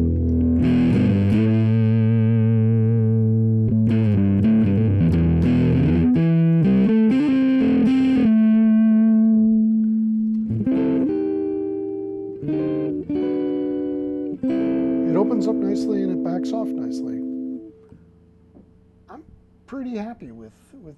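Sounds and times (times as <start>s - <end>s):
clean electric guitar notes and chords: 0.0s - 18.3s.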